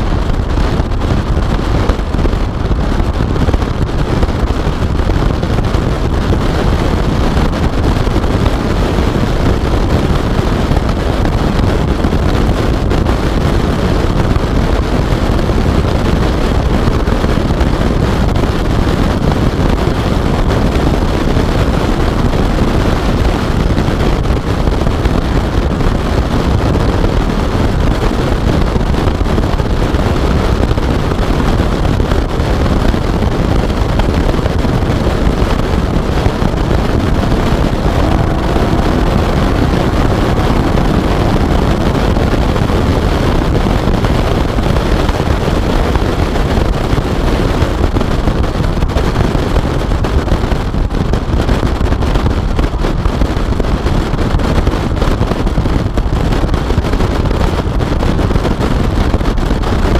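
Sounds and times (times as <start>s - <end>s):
car engine: 0.0s - 54.4s
road noise: 0.0s - 59.2s
wind buffeting microphone: 0.0s - 59.9s.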